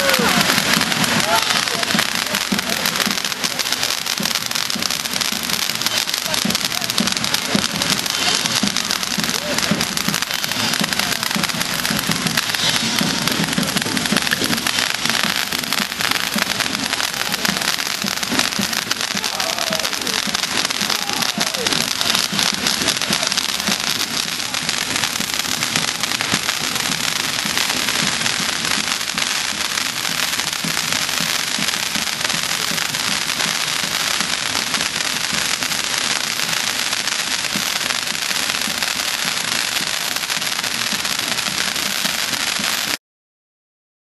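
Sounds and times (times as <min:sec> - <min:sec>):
spark fountains hissing and crackling: 0:00.0 - 0:43.0.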